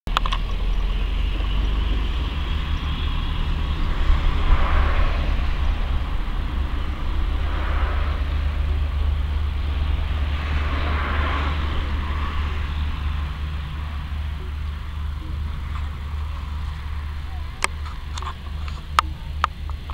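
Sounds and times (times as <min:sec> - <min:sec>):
engine hiss: 0:00.1 - 0:19.9
turboprop engine starting: 0:00.1 - 0:19.9.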